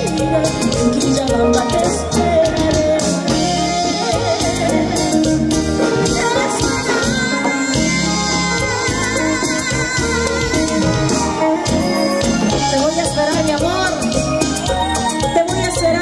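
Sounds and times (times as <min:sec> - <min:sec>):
cumbia band playing over a pa: 0:00.0 - 0:16.0.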